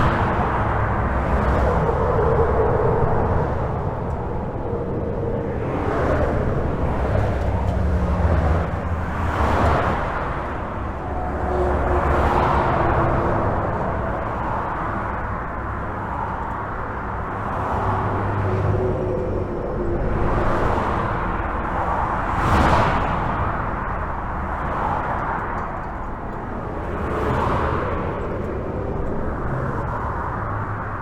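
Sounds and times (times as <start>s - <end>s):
highway traffic rushing: 0.0s - 31.0s
low rumble: 0.0s - 31.0s
vehicles passing close: 0.0s - 31.0s.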